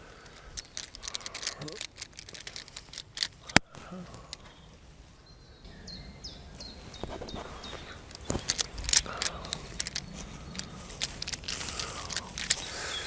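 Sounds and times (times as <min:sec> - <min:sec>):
sharp crackles and clicks: 0:00.0 - 0:04.8, 0:06.5 - 0:13.0.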